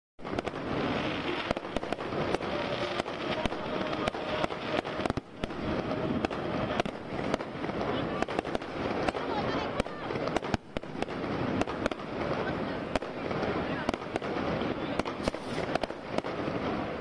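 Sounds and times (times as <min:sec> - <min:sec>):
fireworks bangs and pops: 0:00.2 - 0:17.0.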